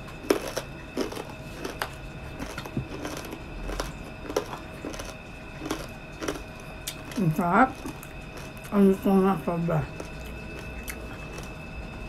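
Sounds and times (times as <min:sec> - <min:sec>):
chewing crispy fried food: 0:00.0 - 0:12.0.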